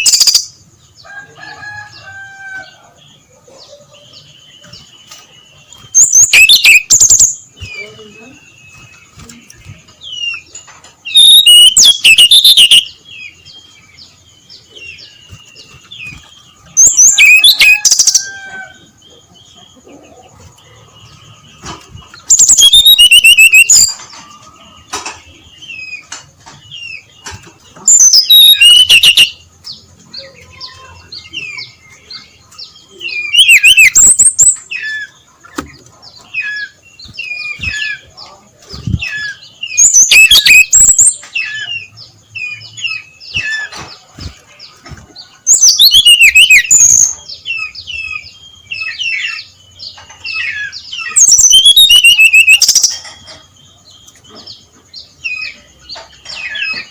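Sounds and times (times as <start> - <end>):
flycatcher singing: 0.0 - 56.9
soft bird chirps: 0.0 - 56.9.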